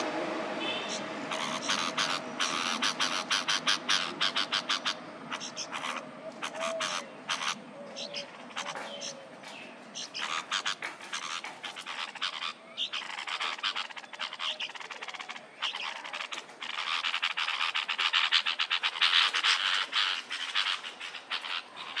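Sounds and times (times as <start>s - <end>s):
nestlings chattering: 0.6s - 22.0s.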